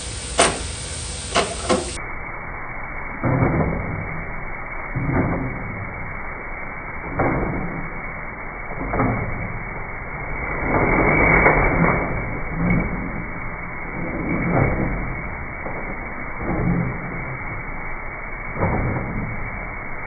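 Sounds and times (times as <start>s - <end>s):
drain cleaning machine churning: 0.0s - 2.1s, 2.9s - 20.0s.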